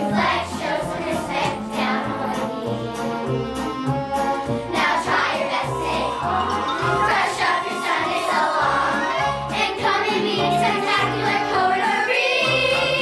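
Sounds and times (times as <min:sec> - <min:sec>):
children's chorus singing: 0:00.0 - 0:03.3, 0:04.6 - 0:13.0
musical accompaniment with bass: 0:00.0 - 0:13.0.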